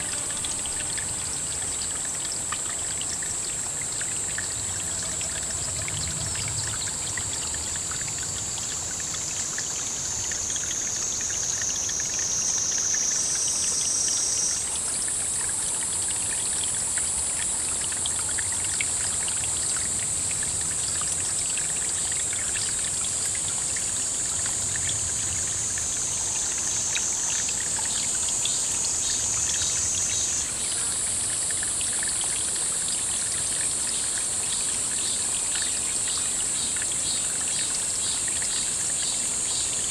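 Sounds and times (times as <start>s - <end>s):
water trickling: 0.0s - 39.9s
high-pitched insect chorus: 3.2s - 39.9s.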